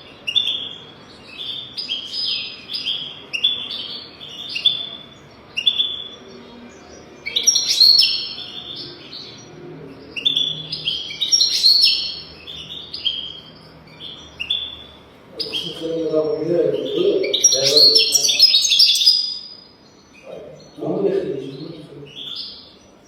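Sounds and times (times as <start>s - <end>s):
goldfinch twittering song: 0.0s - 23.0s.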